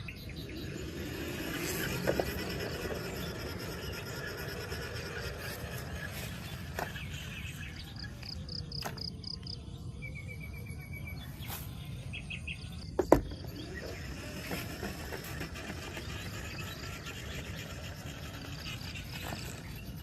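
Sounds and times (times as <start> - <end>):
birds chirping in trills: 0.0 - 20.0.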